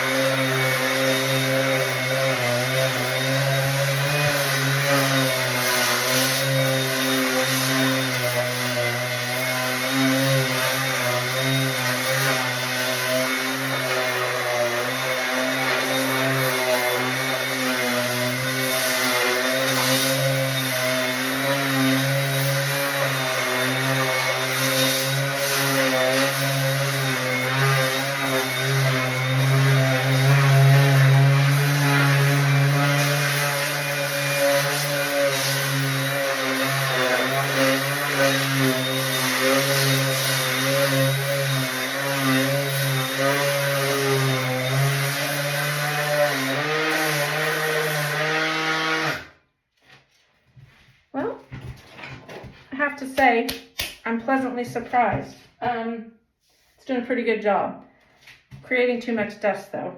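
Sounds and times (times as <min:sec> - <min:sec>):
power sander on a wall: 0:00.0 - 0:50.7
gritty grinding on concrete: 0:00.0 - 0:55.8.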